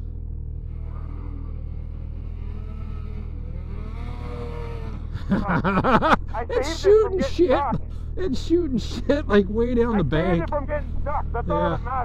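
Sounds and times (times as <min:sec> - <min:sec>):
snowmobile engine revving: 0:00.0 - 0:12.0
steady low hum: 0:00.0 - 0:12.0.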